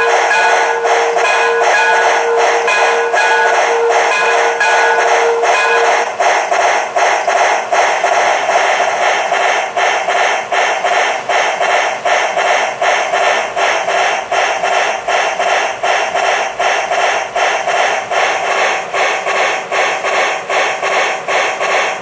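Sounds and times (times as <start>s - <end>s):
model locomotive steam chuffs: 0.0s - 22.0s.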